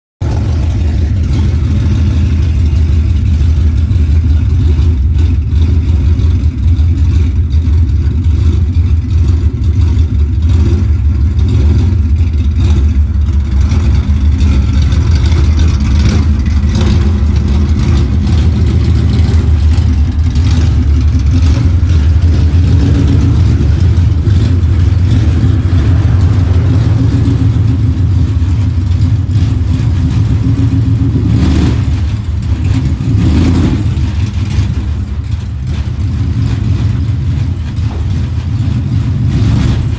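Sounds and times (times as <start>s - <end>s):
car engine idling unevenly: 0.2s - 39.9s.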